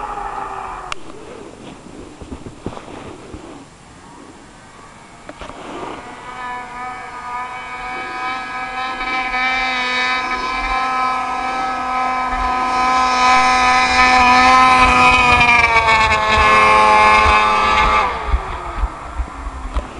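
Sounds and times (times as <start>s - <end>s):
snowmobile engine at high revs: 0.0s - 3.7s, 5.3s - 19.9s.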